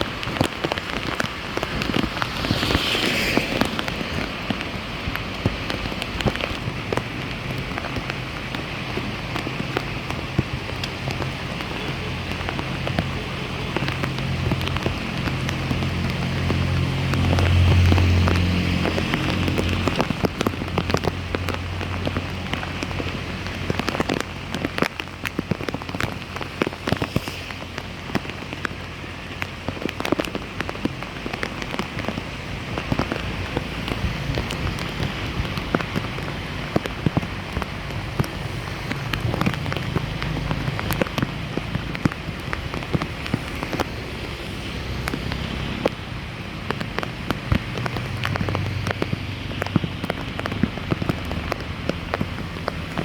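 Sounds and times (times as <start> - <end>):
rain pattering on water: 0.0 - 53.0.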